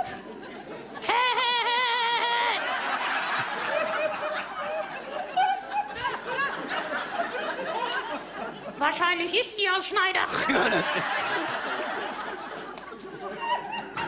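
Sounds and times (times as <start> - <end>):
audience laughing: 0.0 - 8.8, 10.3 - 14.0.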